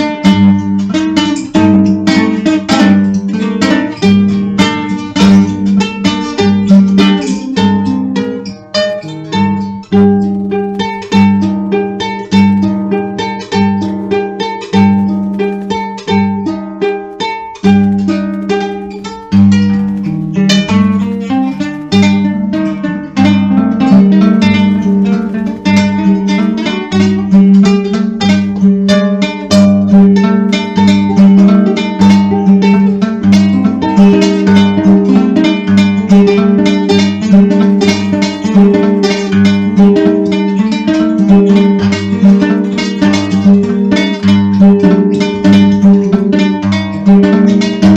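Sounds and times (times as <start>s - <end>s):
acoustic guitar plucking: 0.0s - 47.9s.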